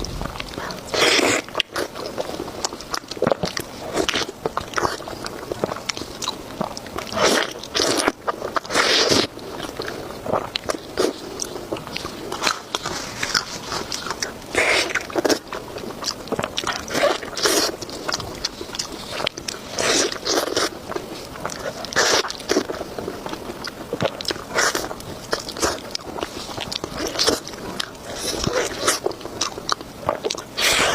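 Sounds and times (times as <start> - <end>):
crunchy chewing of cartilage: 0.0 - 30.9.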